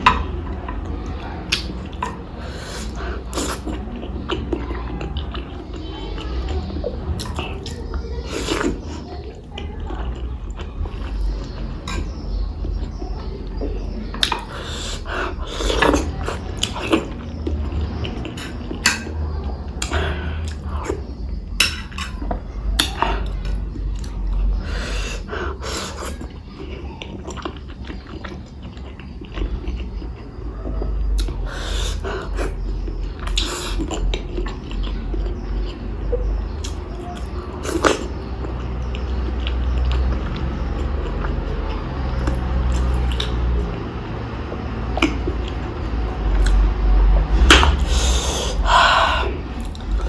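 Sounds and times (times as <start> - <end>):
person chewing with mouth clicks: 0.7 - 12.1, 14.1 - 21.1, 21.8 - 35.8, 36.6 - 43.6, 44.8 - 50.0.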